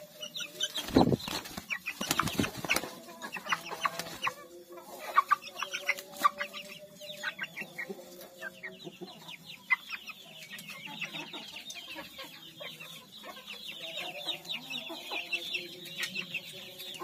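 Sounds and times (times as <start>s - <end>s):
chickens peeping and clucking: 0.0s - 17.0s.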